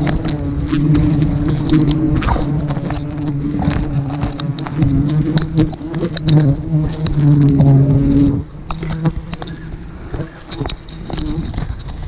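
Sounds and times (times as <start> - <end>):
bees buzzing: 0.0 - 12.0
snaps and crackles in brush: 0.0 - 12.0.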